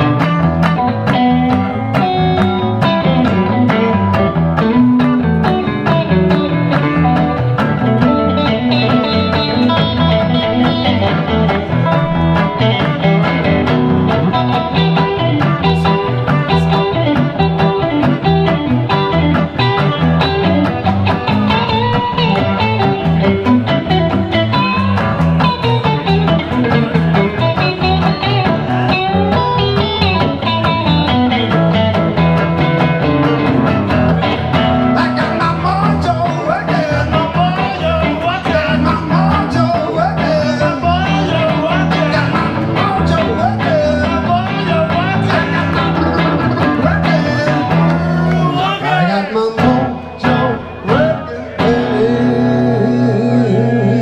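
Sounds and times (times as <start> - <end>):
electric guitar lead with bends: 0.0 - 54.0
rhythm guitar: 0.0 - 54.0.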